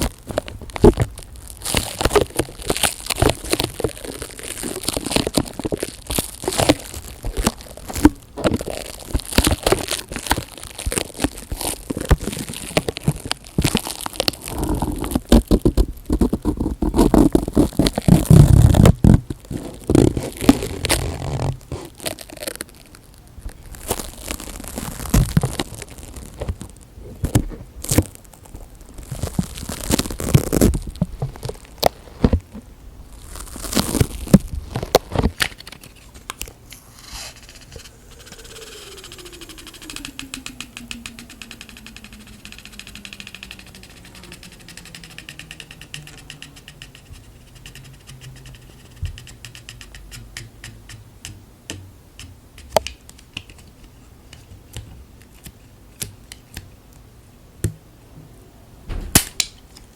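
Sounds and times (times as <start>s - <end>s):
crinkling and crackling: 0.0s - 49.9s.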